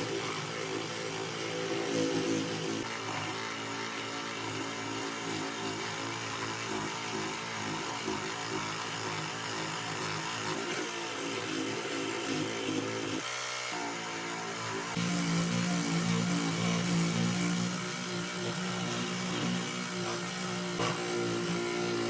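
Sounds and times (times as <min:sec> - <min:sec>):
electric power tool motor running: 0:00.0 - 0:22.0.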